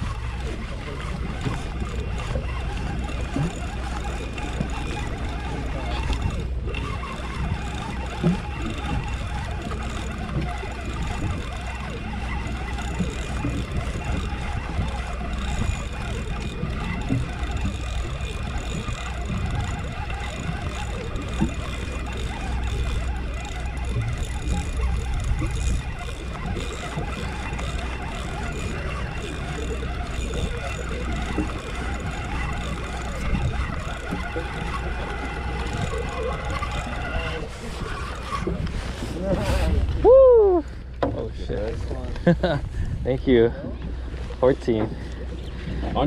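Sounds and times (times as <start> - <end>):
boat engine drone: 0.0 - 46.0
wind and water noise: 0.0 - 46.0.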